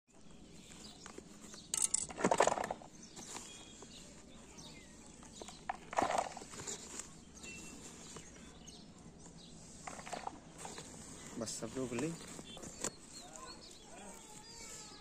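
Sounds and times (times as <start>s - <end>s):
hands scraping dry soil: 0.1s - 1.9s, 2.8s - 15.0s
plastic sack rustling: 0.4s - 15.0s.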